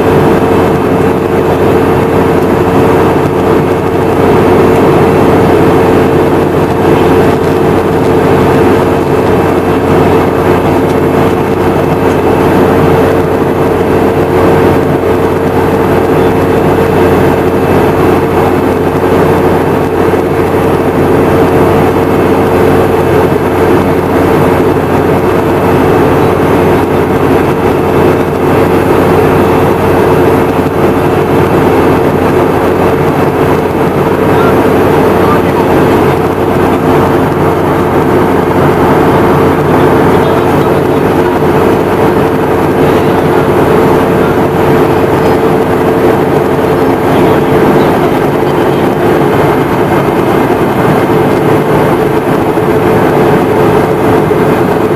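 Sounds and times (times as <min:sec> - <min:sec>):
airflow rush: 0:00.0 - 0:54.9
constant hum: 0:00.0 - 0:54.9
jet engine drone: 0:00.0 - 0:54.9.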